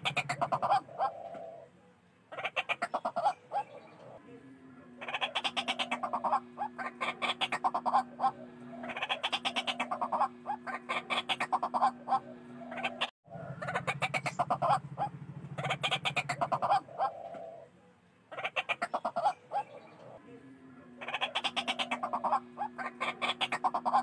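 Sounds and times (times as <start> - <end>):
waterhen croaking calls: 0.0 - 1.7, 2.3 - 4.2, 5.0 - 17.7, 18.3 - 20.2, 20.8 - 24.0.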